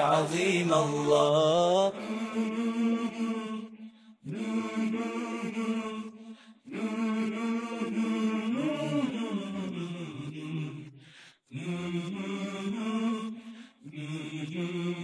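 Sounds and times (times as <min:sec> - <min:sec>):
voices chanting low drone: 0:00.0 - 0:15.0.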